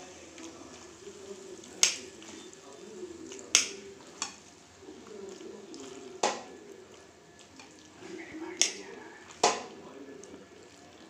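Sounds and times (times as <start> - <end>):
faint low murmur: 0.0 - 11.0.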